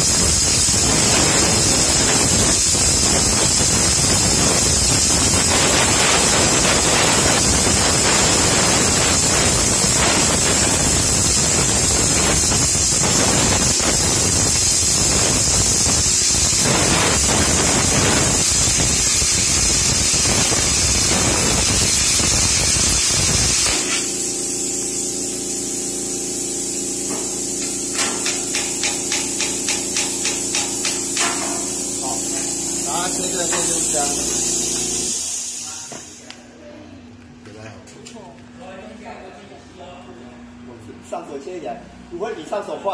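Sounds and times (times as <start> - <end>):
plasma cutter hissing: 0.0 - 36.4.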